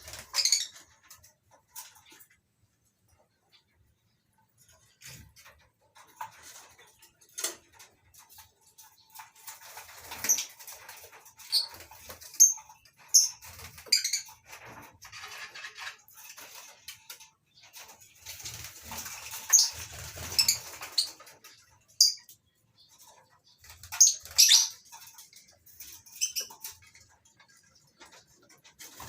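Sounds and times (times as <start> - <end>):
lovebirds chirping and squeaking: 0.0 - 29.0.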